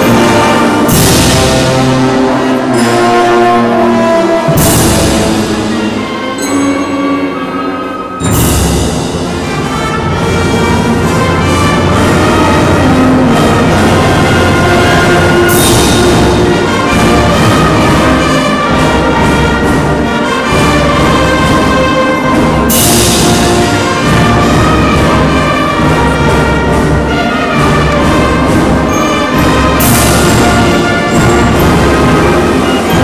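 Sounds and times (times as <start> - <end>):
concert band playing chords: 0.0 - 33.0.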